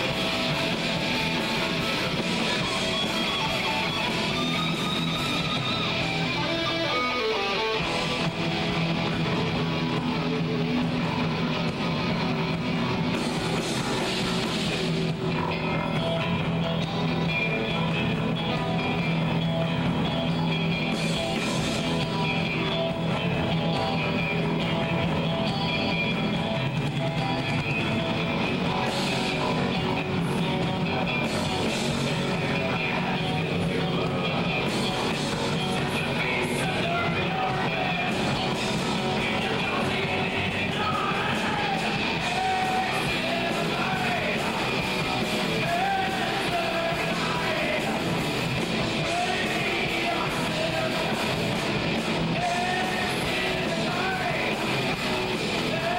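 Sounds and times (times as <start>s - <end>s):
bass guitar: 0.0s - 55.9s
drum kit: 0.0s - 55.9s
electric guitars: 0.0s - 55.9s.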